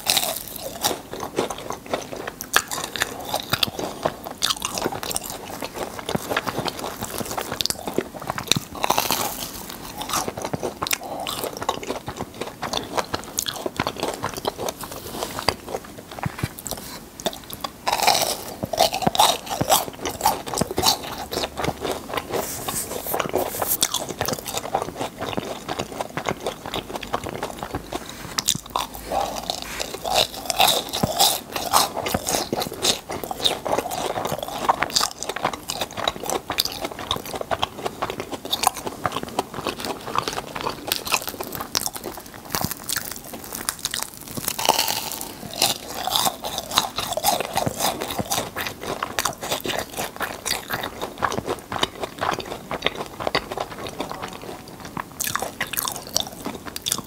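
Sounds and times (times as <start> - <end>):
crunching and chewing churros: 0.0 - 57.0.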